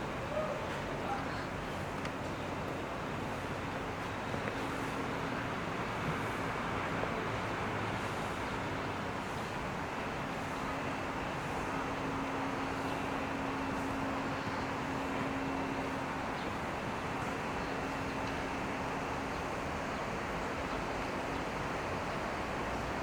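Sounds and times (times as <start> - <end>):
traffic and street noise: 0.0 - 23.0.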